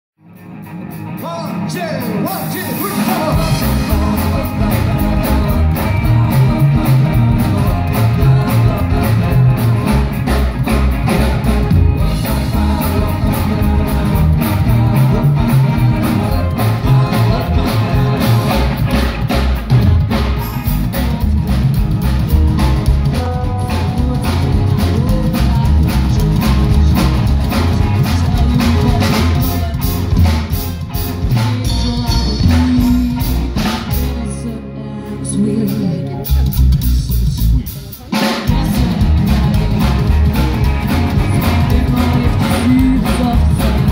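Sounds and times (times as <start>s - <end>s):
rockabilly band playing live: 0.2s - 43.9s
person singing: 1.2s - 19.0s, 20.7s - 43.9s.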